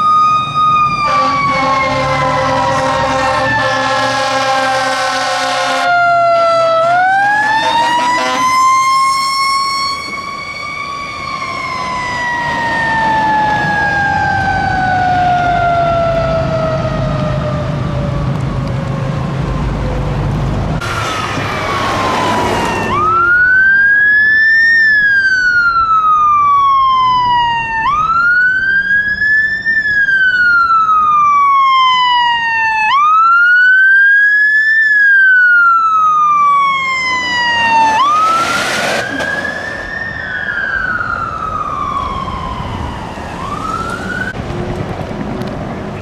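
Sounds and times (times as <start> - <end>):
fire engine siren wailing: 0.0 - 46.0.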